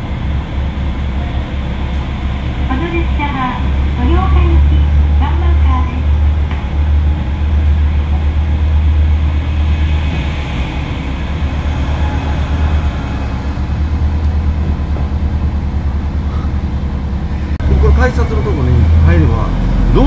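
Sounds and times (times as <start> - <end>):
diesel train rumbling: 0.0 - 20.0.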